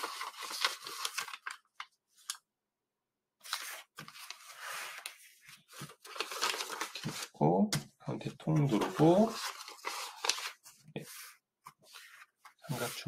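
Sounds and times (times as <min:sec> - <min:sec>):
paper rustling and crinkling: 0:00.0 - 0:02.3, 0:03.4 - 0:07.4, 0:08.4 - 0:13.0.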